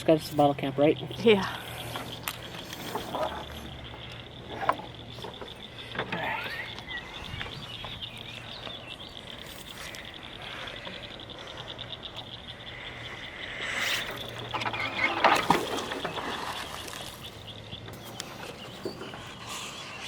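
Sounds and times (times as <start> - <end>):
pulsing trill of frogs and insects: 0.0 - 20.0.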